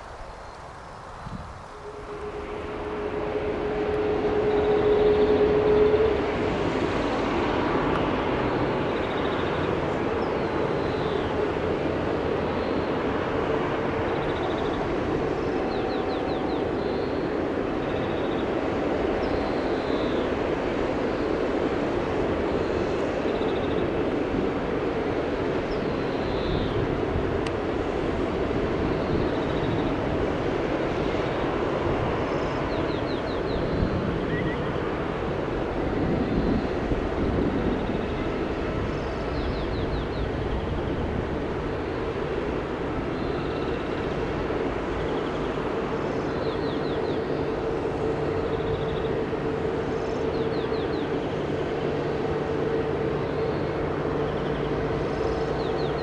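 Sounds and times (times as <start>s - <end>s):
jet engine taking off: 0.0s - 56.0s.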